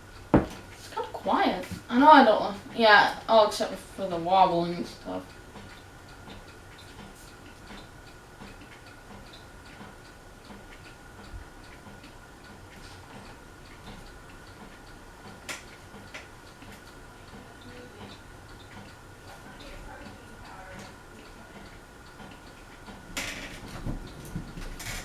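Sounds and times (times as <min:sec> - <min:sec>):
ceiling fan humming: 0:00.0 - 0:25.0
ceiling fan ticking: 0:00.0 - 0:25.0.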